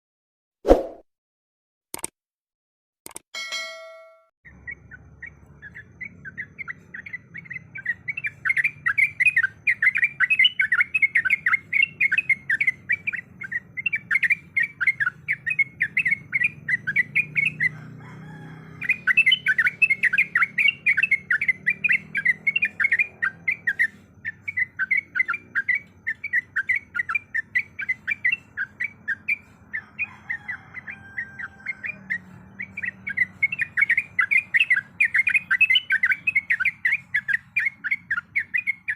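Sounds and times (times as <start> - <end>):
bird singing rolling song: 4.5 - 38.9.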